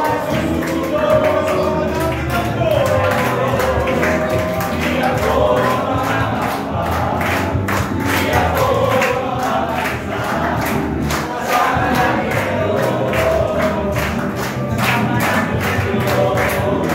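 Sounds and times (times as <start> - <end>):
backing music from loudspeaker: 0.0 - 16.9
group singing worship song: 0.0 - 16.9
hands clapping a steady beat: 0.0 - 16.9.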